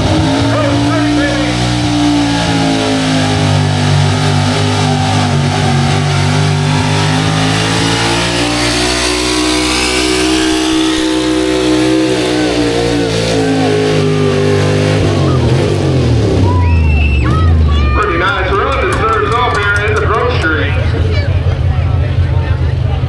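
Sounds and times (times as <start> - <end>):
truck engine at full throttle: 0.0 - 23.0.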